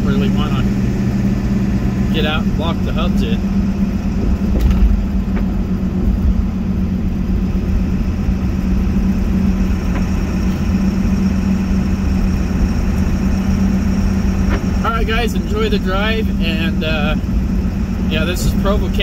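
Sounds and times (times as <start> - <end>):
road rumble: 0.0 - 19.0
truck engine drone: 0.0 - 19.0.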